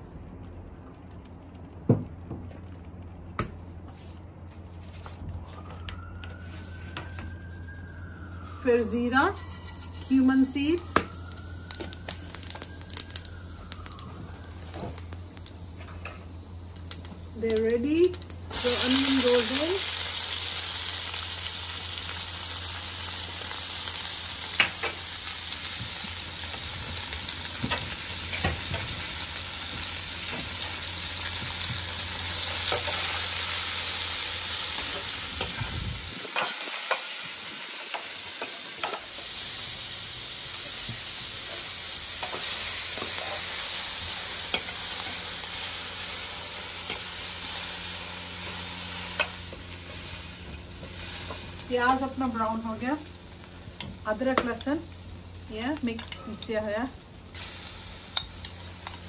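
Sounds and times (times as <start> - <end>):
onions sizzling in oil: 8.4 - 59.0.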